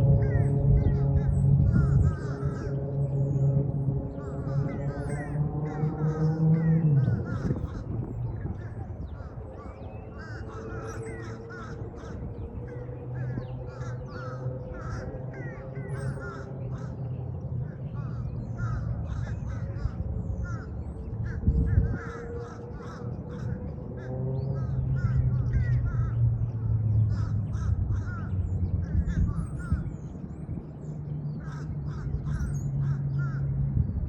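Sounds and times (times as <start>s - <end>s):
birds chirping: 0.0s - 34.0s
steady low rumble: 0.0s - 34.0s.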